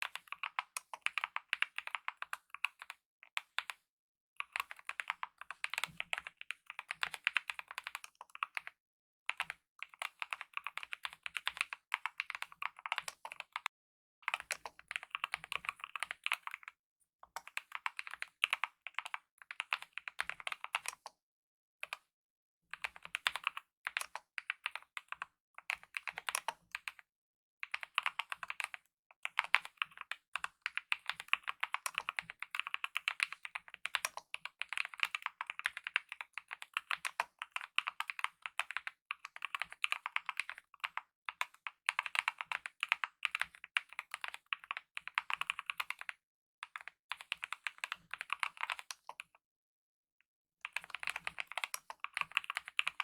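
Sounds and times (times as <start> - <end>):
mechanical keyboard typing: 0.0 - 2.8, 4.4 - 8.7, 9.4 - 13.7, 14.3 - 16.7, 17.4 - 21.1, 22.8 - 27.0, 27.7 - 49.3, 50.6 - 53.0.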